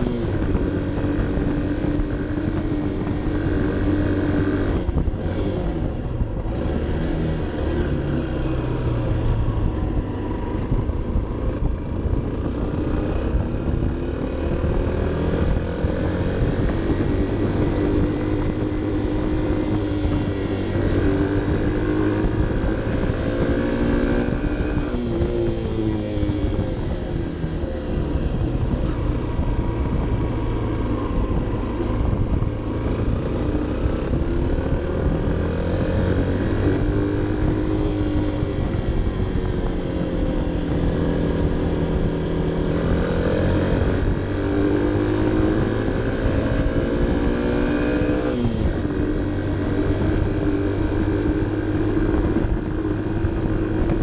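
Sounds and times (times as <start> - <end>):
motorcycle engine pulling uphill: 0.0 - 54.0.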